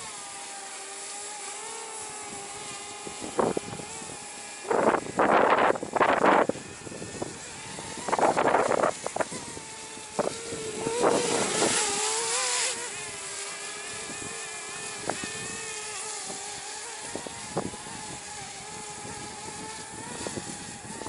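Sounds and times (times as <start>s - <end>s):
drone motors whining: 0.0s - 21.0s
wind hiss: 0.0s - 21.0s.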